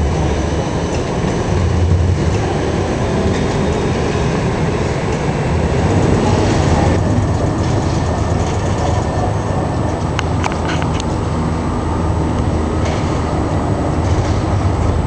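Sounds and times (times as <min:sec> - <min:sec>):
passing traffic: 0:00.0 - 0:15.0
trams running on tracks: 0:00.0 - 0:15.0.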